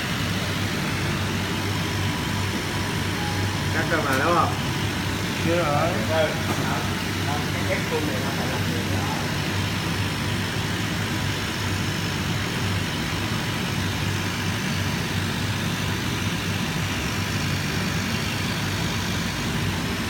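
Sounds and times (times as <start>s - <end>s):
cutting machine humming: 0.0s - 20.0s.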